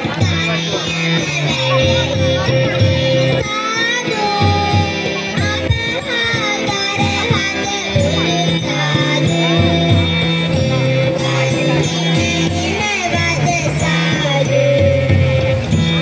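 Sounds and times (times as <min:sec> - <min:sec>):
children singing: 0:00.0 - 0:16.0
live band playing devotional song: 0:00.0 - 0:16.0
repeating bass line: 0:00.0 - 0:16.0.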